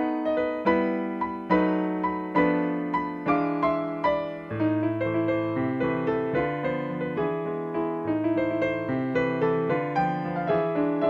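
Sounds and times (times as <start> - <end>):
solo piano melody: 0.0 - 11.0.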